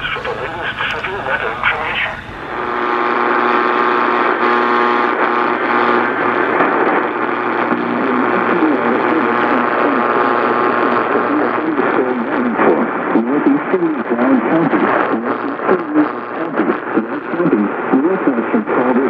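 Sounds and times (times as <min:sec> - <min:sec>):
radio static hiss: 0:00.0 - 0:19.0
steady hum of several tones: 0:00.0 - 0:19.0.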